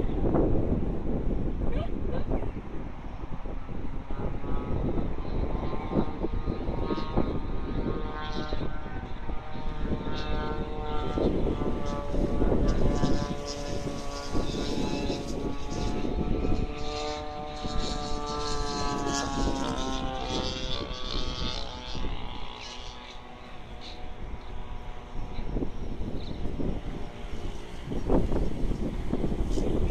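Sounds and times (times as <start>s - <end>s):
droning motor hum: 0.0s - 29.9s
wind buffeting microphone: 0.0s - 29.9s.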